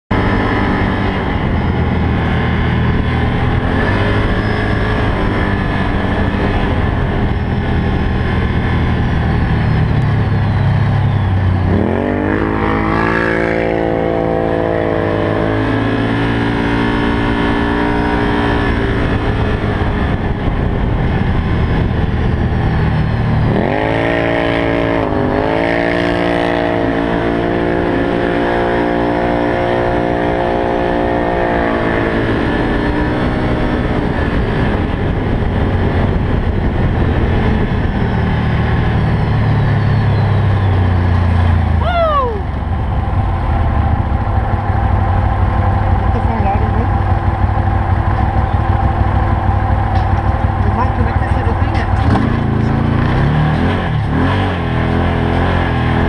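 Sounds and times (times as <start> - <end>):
low rumble: 0.1 - 16.3, 16.9 - 27.0, 30.9 - 56.0
vehicle engine revving: 0.1 - 56.0.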